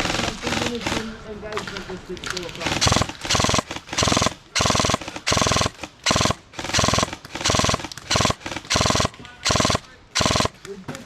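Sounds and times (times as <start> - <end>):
airsoft gun firing bursts: 0.0 - 1.2, 2.5 - 10.7.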